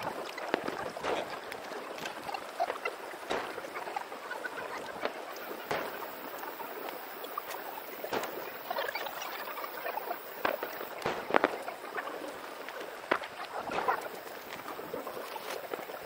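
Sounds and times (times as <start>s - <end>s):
firework cracks: 0.5s - 16.0s
high-pitched crackling: 0.7s - 16.0s.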